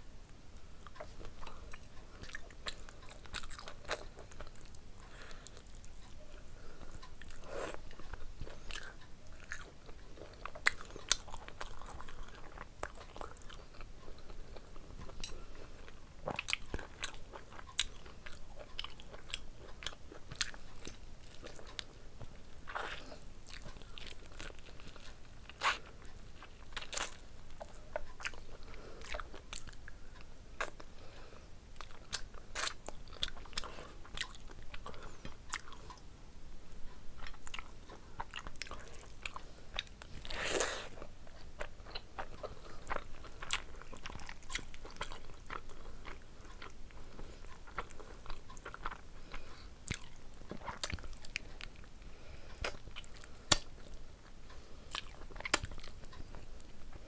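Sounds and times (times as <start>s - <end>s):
chewing and mouth sounds: 0.8s - 31.1s, 31.8s - 36.0s, 37.2s - 57.0s.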